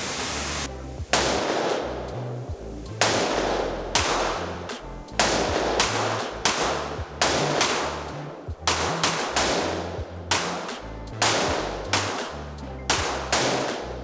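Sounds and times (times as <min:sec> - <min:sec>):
handgun shots echoing: 0:01.1 - 0:02.0, 0:03.0 - 0:14.0.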